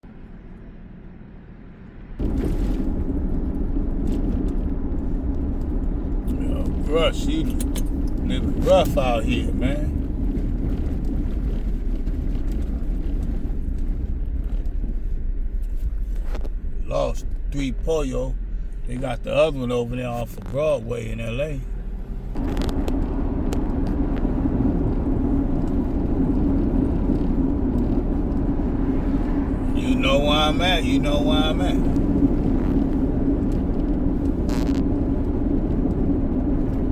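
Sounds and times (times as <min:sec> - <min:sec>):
car road and engine rumble: 0:00.0 - 0:36.9.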